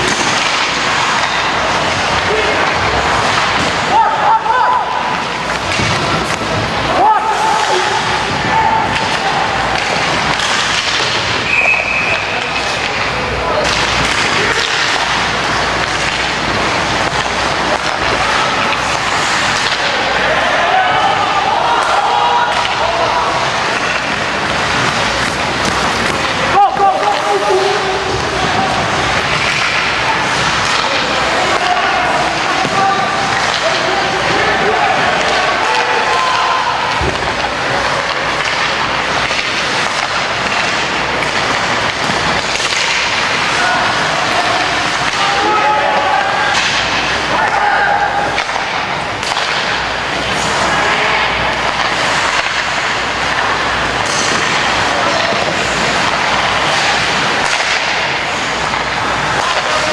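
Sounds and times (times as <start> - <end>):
hockey stick and puck clicks: 0.0 - 4.0, 4.9 - 6.7, 7.5 - 59.9
ice rink crowd ambience: 0.0 - 59.9.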